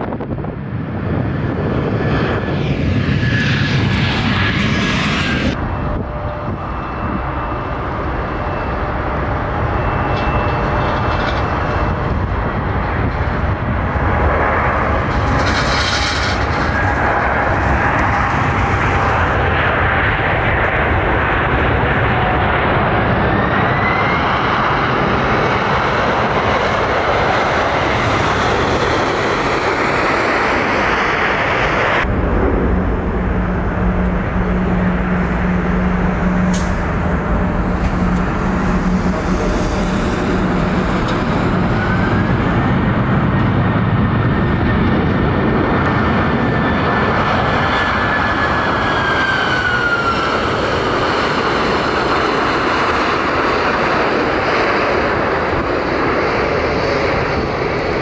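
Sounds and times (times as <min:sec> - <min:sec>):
jet engine noise: 0:00.0 - 0:58.0
jet engine whine: 0:00.0 - 0:58.0.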